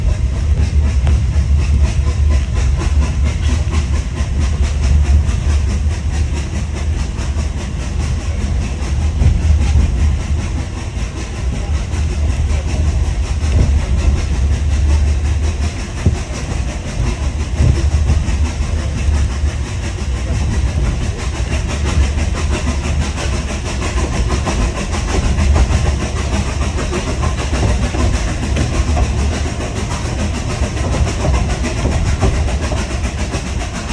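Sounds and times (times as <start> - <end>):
steam locomotive running: 0.0 - 33.9
wheels clattering on rails: 0.0 - 33.9.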